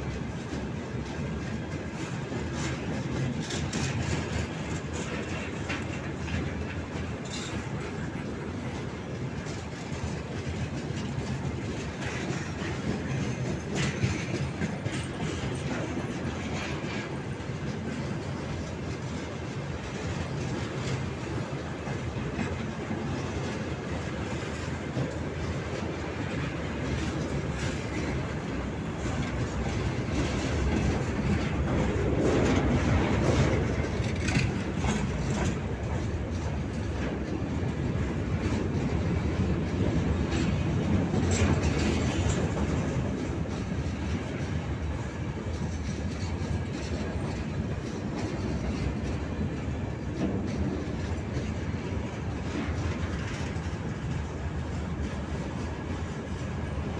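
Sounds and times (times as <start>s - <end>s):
clicks over rail joints: 0.0s - 56.9s
rumble of wheels on rail: 0.0s - 56.9s.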